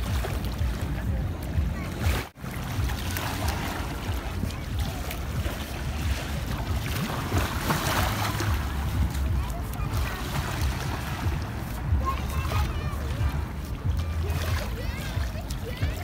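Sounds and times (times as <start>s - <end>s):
small waves washing on shore: 0.0s - 16.0s
wind rumbling on microphone: 0.0s - 16.0s.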